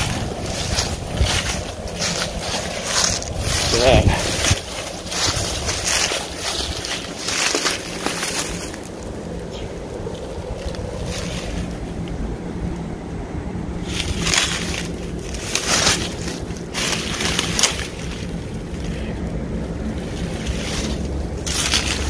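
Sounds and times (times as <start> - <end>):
footsteps crunching through dry leaves: 0.0 - 12.8, 13.7 - 22.0
wind rumble on microphone: 0.0 - 22.0.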